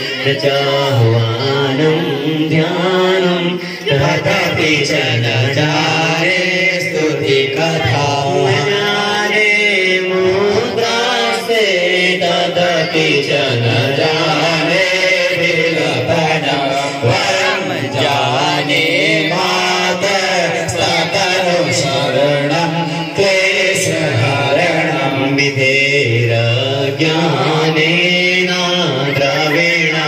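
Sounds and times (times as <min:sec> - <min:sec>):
person chanting a hymn: 0:00.0 - 0:30.0.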